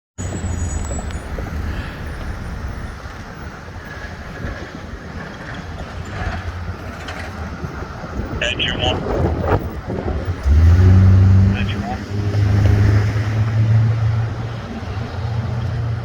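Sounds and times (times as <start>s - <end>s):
heavy vehicle engine rumble: 0.2s - 16.0s
road noise: 0.2s - 16.0s.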